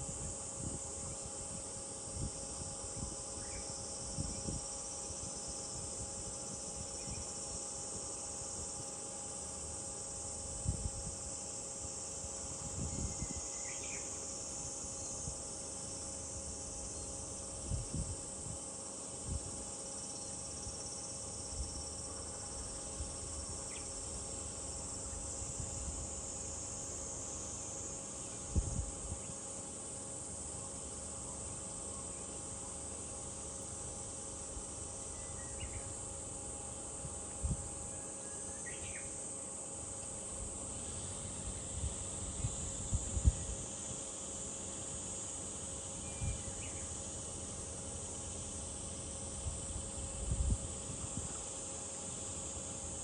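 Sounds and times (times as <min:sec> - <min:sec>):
cicadas shrilling: 0:00.0 - 0:53.0.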